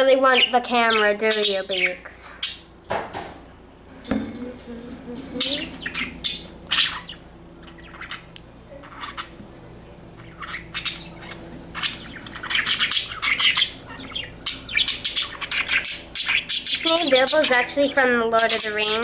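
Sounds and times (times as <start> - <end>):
budgies chirping and squawking: 0.0 - 2.8, 4.4 - 19.0.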